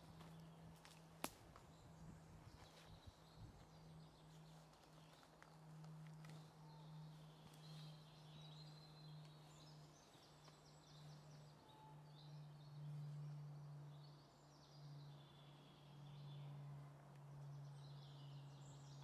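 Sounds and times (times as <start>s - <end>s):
songbirds trilling and chirping: 0.0s - 19.0s.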